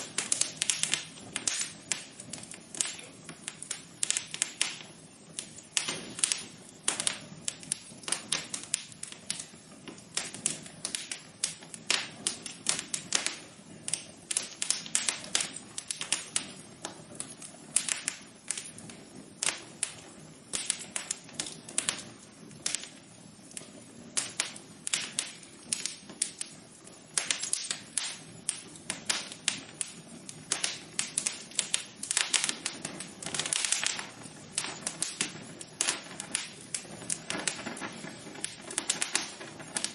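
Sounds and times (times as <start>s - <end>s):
soft low hiss: 0.0s - 39.9s
wood fire crackling: 0.0s - 39.9s.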